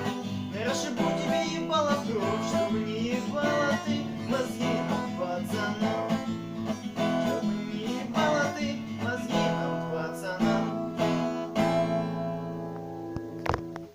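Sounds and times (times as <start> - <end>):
acoustic guitar strumming chords: 0.0 - 13.9.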